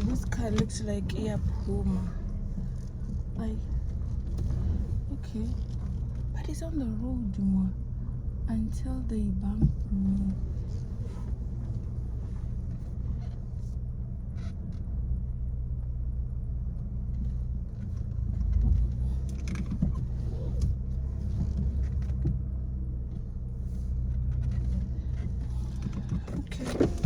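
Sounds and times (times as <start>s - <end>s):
car engine and road rumble: 0.0s - 27.0s.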